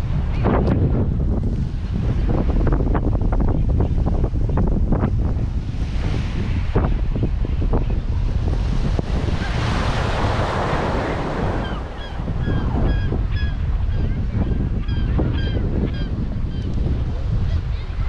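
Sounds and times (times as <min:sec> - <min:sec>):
surf washing onto beach: 0:00.0 - 0:14.8
wind on microphone: 0:00.0 - 0:18.0.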